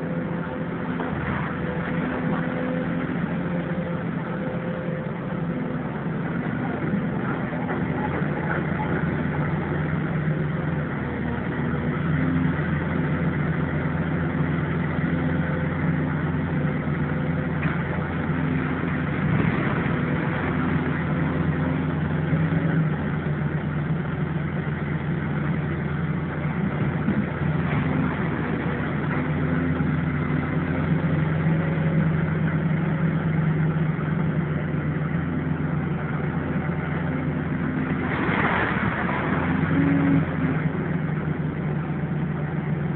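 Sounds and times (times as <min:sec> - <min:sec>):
heavy machinery engine running: 0:00.0 - 0:42.9.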